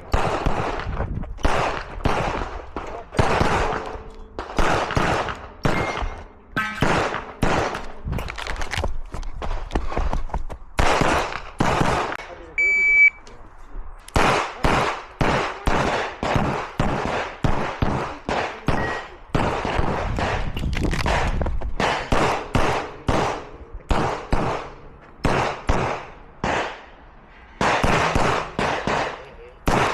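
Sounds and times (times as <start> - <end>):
pistol shots: 0.0 - 8.0, 10.8 - 12.2, 14.1 - 26.9, 27.6 - 29.9.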